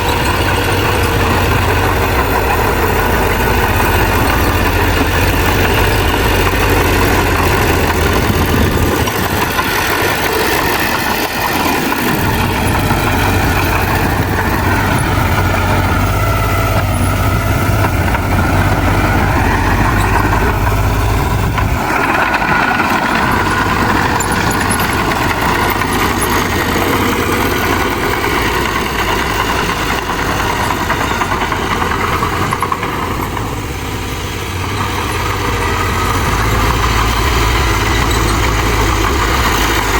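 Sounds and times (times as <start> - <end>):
bulldozer engine working: 0.0 - 39.9.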